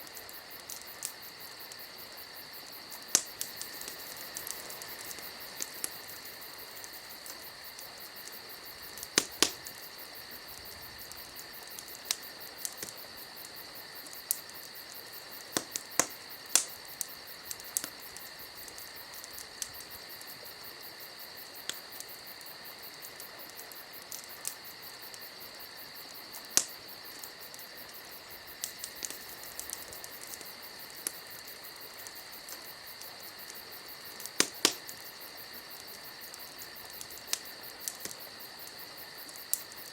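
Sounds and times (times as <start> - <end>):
campfire crackling and popping: 0.0 - 39.9
high cricket-like chirring: 0.0 - 39.9.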